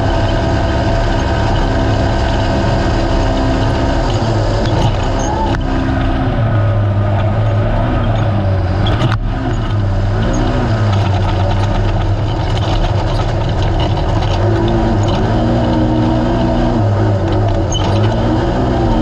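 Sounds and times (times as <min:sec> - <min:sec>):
engine revving hard: 0:00.0 - 0:19.0
rattling: 0:00.0 - 0:19.0.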